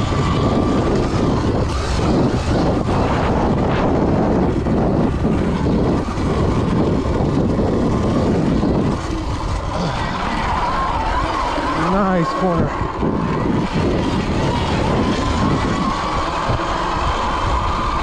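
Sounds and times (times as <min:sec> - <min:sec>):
wind rushing on microphone: 0:00.0 - 0:18.0.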